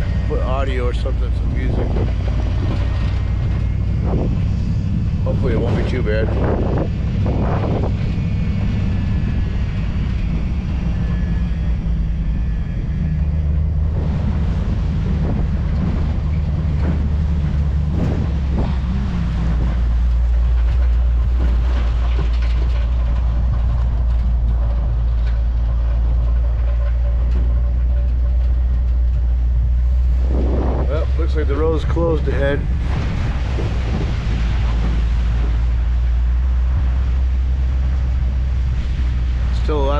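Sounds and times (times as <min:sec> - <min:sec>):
knocks and rattles: 0:00.0 - 0:39.9
truck engine and road rumble: 0:00.0 - 0:39.9.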